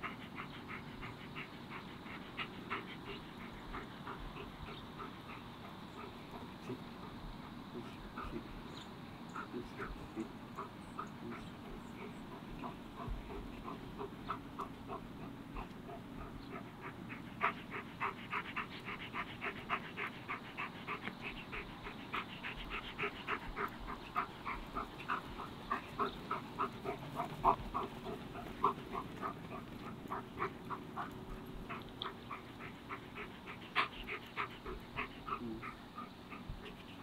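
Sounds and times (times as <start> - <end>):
dog panting fast: 0.0 - 37.0.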